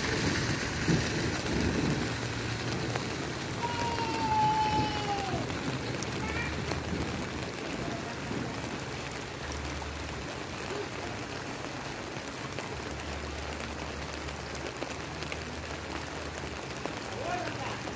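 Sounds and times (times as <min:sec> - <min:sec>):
rain falling on wet street: 0:00.0 - 0:17.9.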